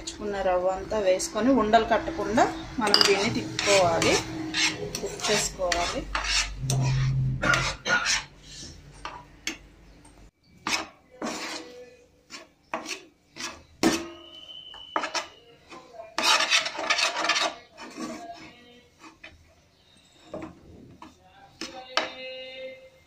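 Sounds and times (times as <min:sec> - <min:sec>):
metal spoon scraping a frying pan: 0:01.8 - 0:09.6, 0:10.6 - 0:22.8.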